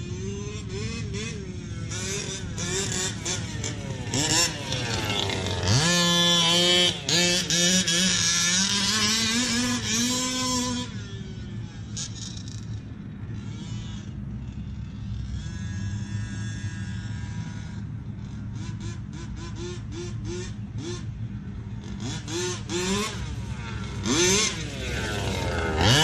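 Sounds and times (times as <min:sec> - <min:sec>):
two-stroke engine revving: 0:00.0 - 0:26.0.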